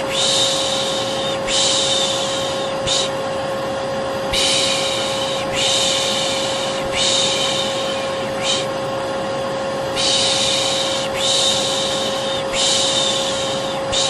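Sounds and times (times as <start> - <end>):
person shushing: 0.0 - 3.2, 4.3 - 8.7, 9.9 - 14.0
vacuum cleaner humming: 0.0 - 14.0.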